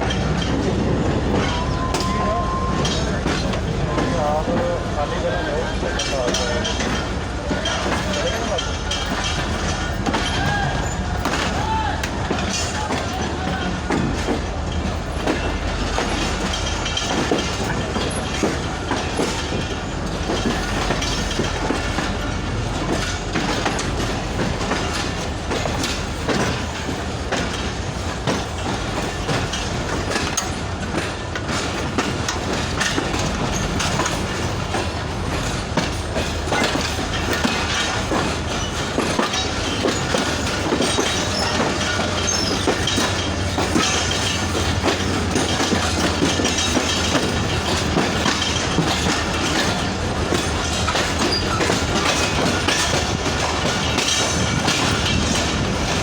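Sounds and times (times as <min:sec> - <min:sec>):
train rumble: 0:00.0 - 0:56.0
train wheels clattering on rails: 0:00.0 - 0:56.0.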